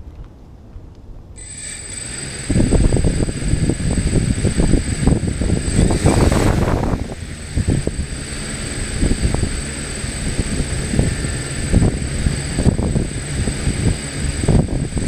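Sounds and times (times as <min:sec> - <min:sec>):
wind buffeting microphone: 0:01.2 - 0:15.0
drone motors whining: 0:01.4 - 0:15.0.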